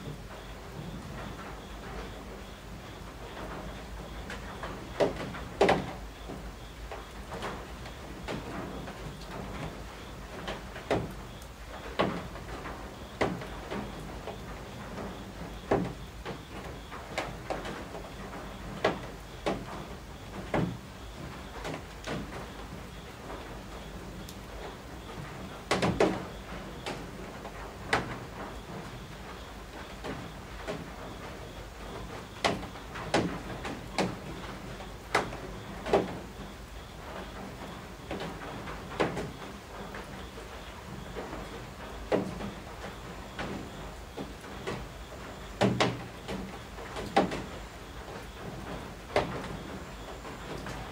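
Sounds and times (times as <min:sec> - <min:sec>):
steady rain: 0:00.0 - 0:50.9
drops tapping from eaves: 0:00.1 - 0:50.9.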